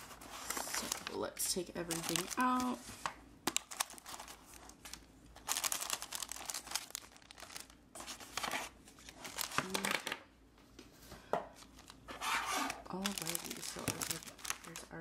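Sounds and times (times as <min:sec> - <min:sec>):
plastic packages crinkling: 0:00.0 - 0:10.2, 0:11.5 - 0:15.0.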